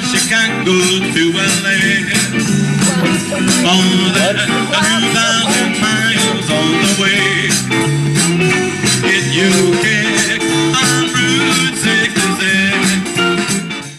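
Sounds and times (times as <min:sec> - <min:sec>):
lead vocal: 0:00.0 - 0:13.6
electric guitar: 0:00.0 - 0:13.9
steady drum beat: 0:00.0 - 0:13.9
upright bass: 0:00.0 - 0:13.9.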